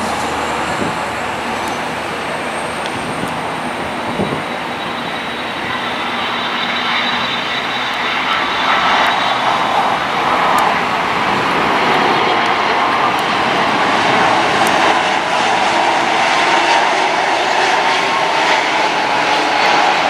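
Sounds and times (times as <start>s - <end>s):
jet engine noise with high whine: 0.0s - 20.0s.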